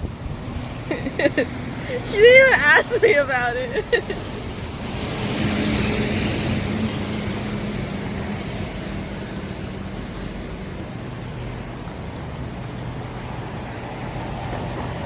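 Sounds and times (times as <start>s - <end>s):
tyre and road noise: 0.0s - 15.0s
vehicle engine hum: 0.0s - 15.0s.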